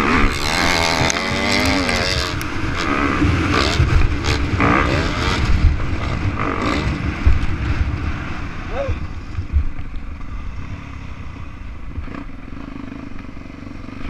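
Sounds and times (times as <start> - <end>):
dirt bike engine revving: 0.0 - 9.3, 10.1 - 14.0.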